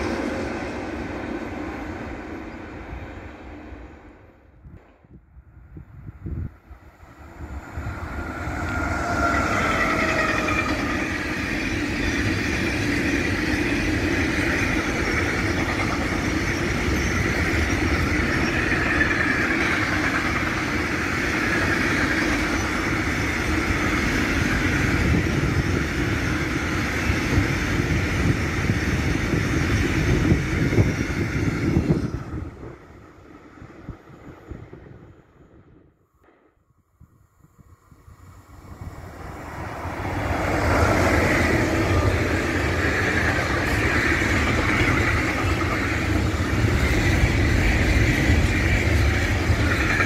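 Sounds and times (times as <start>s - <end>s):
train wagons rumbling on rails: 0.0s - 35.6s, 38.6s - 50.0s.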